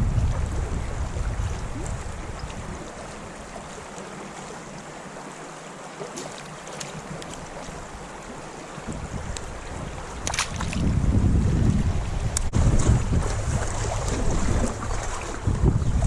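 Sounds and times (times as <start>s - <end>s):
wind buffeting microphone: 0.0s - 3.9s, 7.0s - 16.0s
creek water rushing: 0.0s - 16.0s.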